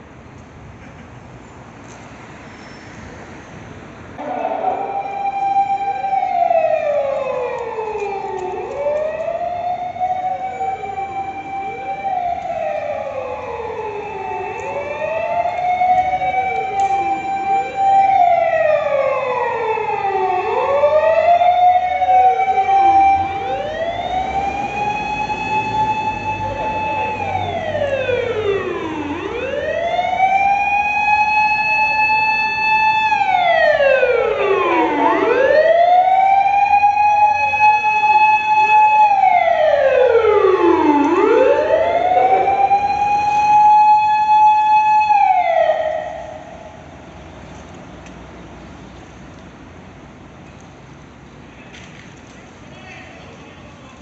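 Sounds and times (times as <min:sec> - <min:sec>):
fire engine sirens wailing: 0:04.2 - 0:47.8.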